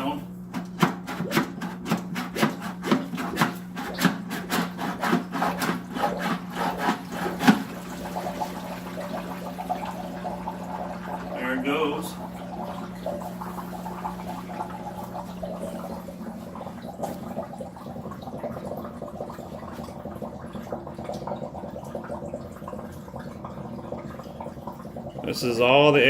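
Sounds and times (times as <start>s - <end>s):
water gurgling and bubbling: 0.0s - 26.0s.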